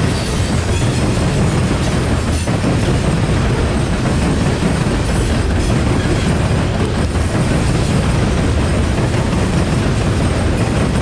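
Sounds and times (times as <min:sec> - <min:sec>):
freight train wheels rumbling on rail: 0:00.0 - 0:11.0.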